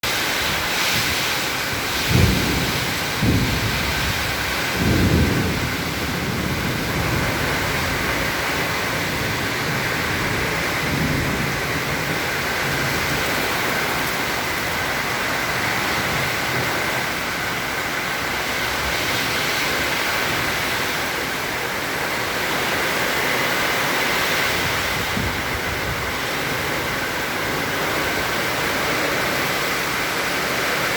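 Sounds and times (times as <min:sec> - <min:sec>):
heavy rain hissing: 0:00.0 - 0:30.9
low rumbling wind gusts: 0:00.0 - 0:30.9.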